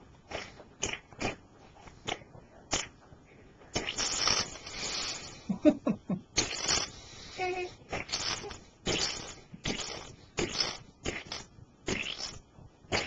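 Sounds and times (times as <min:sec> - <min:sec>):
person blowing raspberry: 0:00.3 - 0:01.4, 0:02.0 - 0:02.9, 0:03.7 - 0:13.0.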